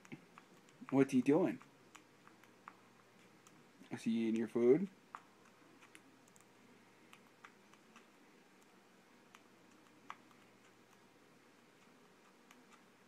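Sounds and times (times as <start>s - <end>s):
faint clicks and ticks: 0.0s - 13.0s.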